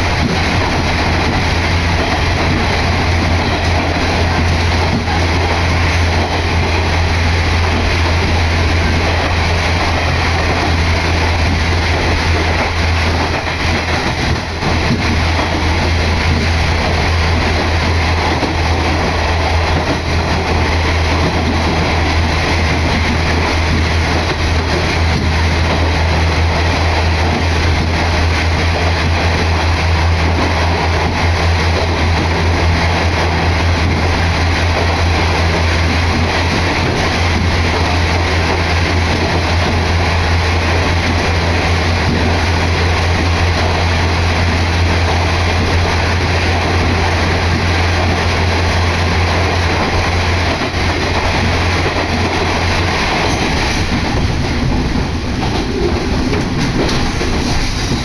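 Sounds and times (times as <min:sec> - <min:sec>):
diesel engine drone: 0:00.0 - 0:58.0
wheels rumbling on rail: 0:00.0 - 0:58.0.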